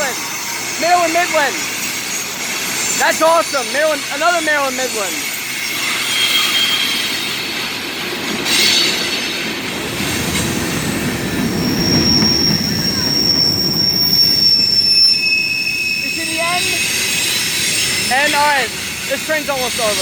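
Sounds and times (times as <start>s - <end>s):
high-pitched wheel squeal: 0.0s - 7.5s, 9.8s - 20.0s
freight train wheels rumbling: 0.0s - 20.0s.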